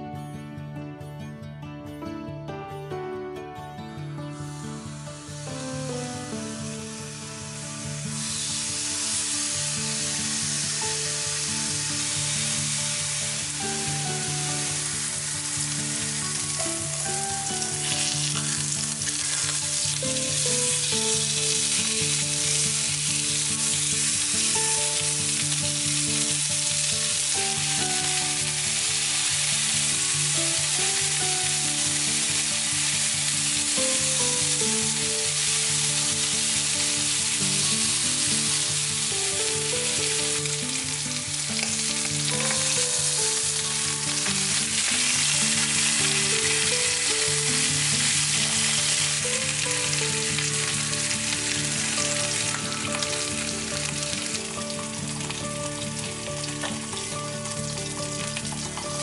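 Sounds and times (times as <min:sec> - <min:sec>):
meat sizzling on a grill pan: 0:04.6 - 0:59.0.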